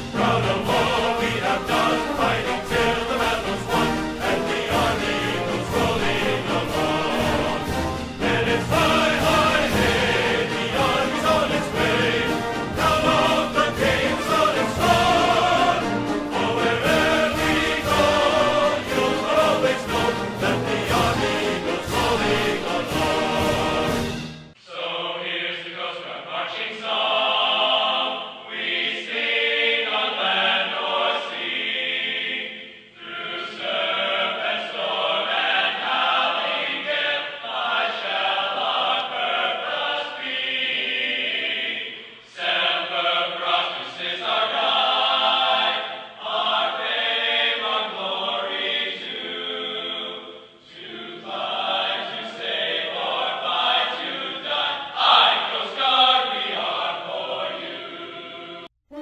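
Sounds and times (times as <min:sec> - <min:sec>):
choir singing held phrases: 0:00.0 - 0:59.0.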